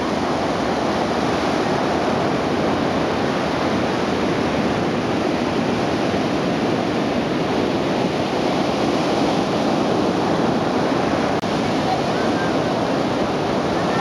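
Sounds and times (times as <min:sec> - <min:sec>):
surf roaring: 0:00.0 - 0:14.0
wind blowing over microphone: 0:00.0 - 0:14.0.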